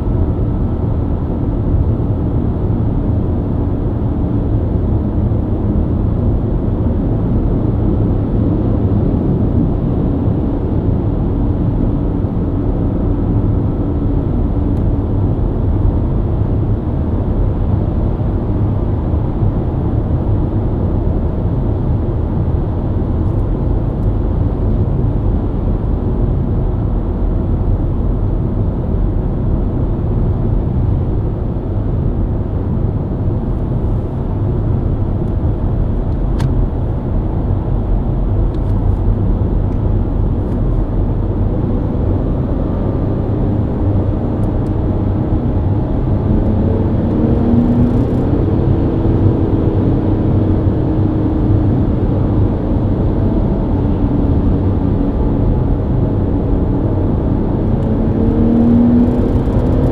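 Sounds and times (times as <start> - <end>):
car engine drone: 0.0 - 59.9
road rumble: 0.0 - 59.9.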